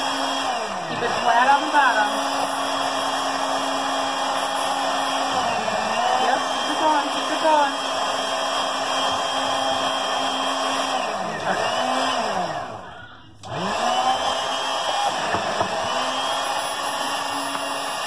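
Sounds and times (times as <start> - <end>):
stick blender running: 0.0 - 18.0.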